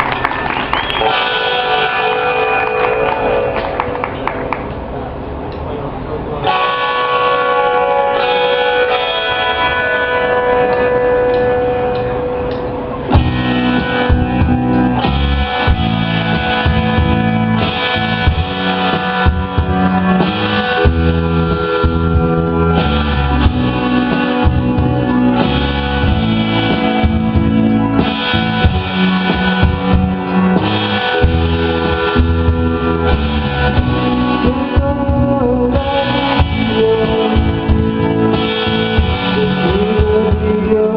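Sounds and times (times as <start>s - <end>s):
electric guitar: 0.0s - 5.7s, 6.3s - 40.9s
bass and drums: 0.0s - 40.9s.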